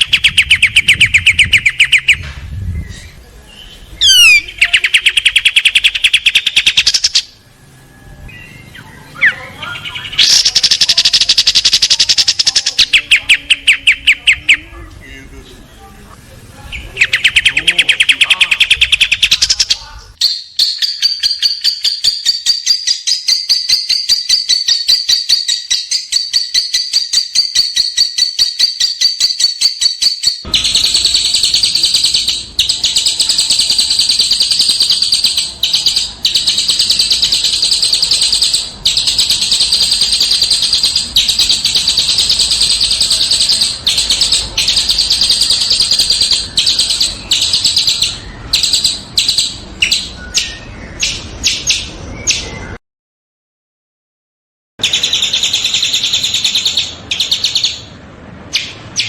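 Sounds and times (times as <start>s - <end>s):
songbird trilling: 0.0s - 7.4s, 8.3s - 14.7s, 16.7s - 52.8s, 54.8s - 59.0s.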